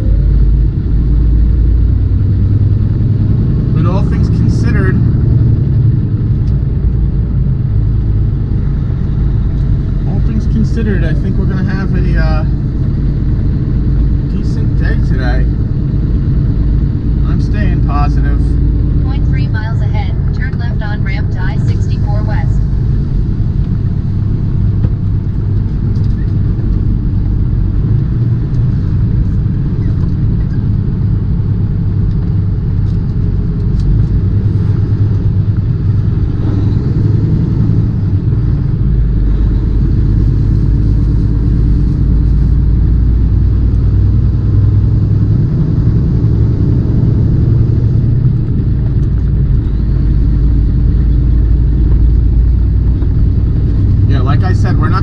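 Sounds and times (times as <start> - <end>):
diesel engine drone: 0.0 - 55.0
road noise: 0.0 - 55.0.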